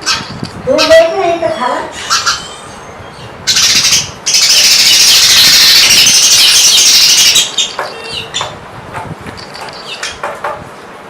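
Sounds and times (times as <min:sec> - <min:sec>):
canary singing: 0:00.0 - 0:08.6, 0:09.4 - 0:10.2.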